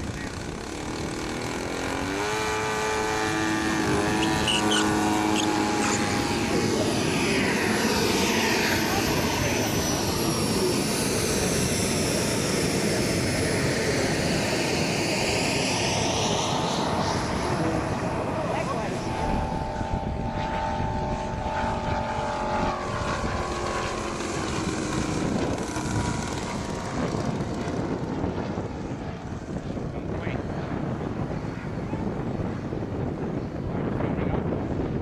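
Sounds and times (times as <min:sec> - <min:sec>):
model plane engine and propeller: 0:00.0 - 0:35.0.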